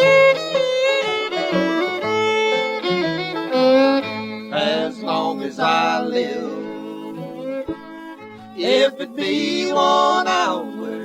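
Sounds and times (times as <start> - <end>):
bluegrass band playing: 0.0 - 11.0.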